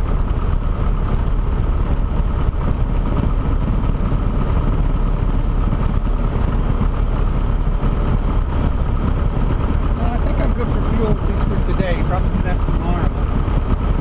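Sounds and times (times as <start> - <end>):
piston aircraft engine droning: 0.0 - 14.0.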